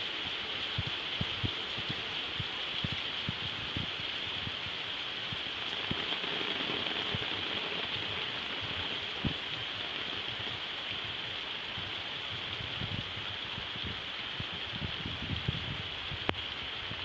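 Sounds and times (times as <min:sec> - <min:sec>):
heavier raindrops landing: 0:00.0 - 0:16.8
steady rain falling: 0:00.0 - 0:17.0.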